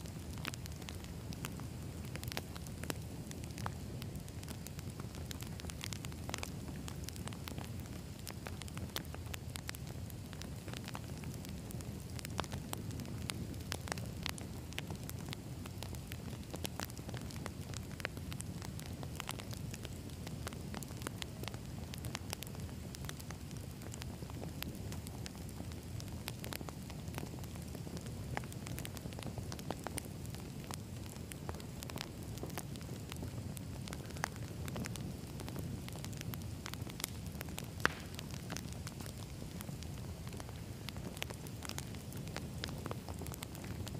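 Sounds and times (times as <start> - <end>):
burning logs crackling and popping: 0.0 - 43.9
campfire flames rushing: 0.0 - 43.9.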